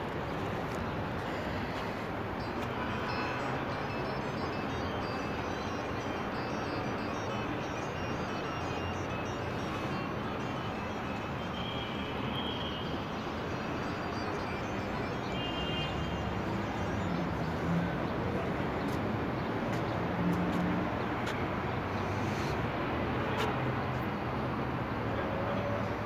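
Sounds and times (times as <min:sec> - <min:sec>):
city traffic noise: 0:00.0 - 0:26.0.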